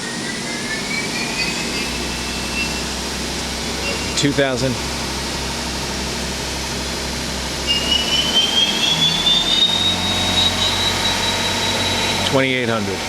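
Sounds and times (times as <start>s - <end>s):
lathe spindle high whine: 0.0s - 13.0s
low machine hum: 0.0s - 13.0s.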